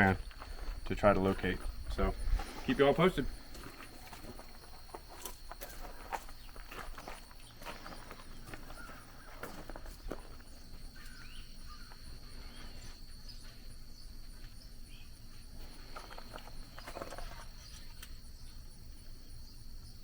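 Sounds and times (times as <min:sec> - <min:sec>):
steady high-pitched hum: 0:00.0 - 0:20.0.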